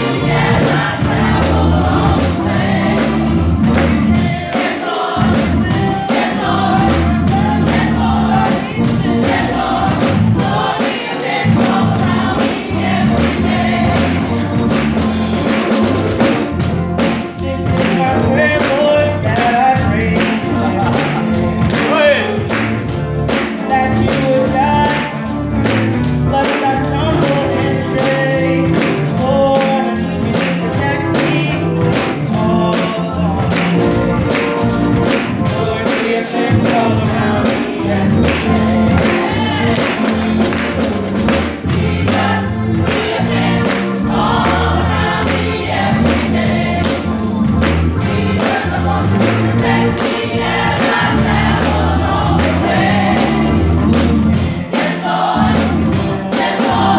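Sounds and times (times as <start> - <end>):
driving beat: 0.0 - 56.9
gospel choir singing: 0.0 - 56.9.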